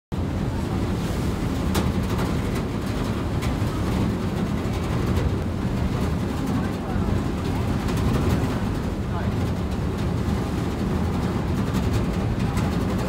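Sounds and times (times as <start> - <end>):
ferry engine low rumble: 0.1 - 13.0.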